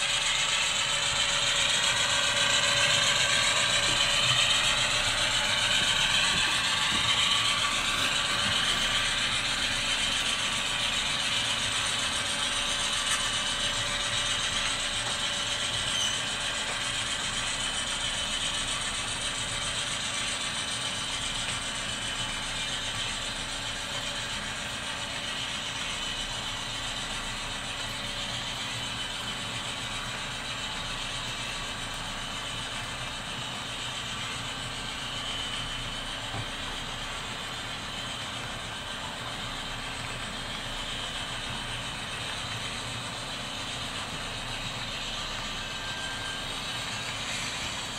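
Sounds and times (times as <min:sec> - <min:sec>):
model train wheels rattling: 0:00.0 - 0:47.9.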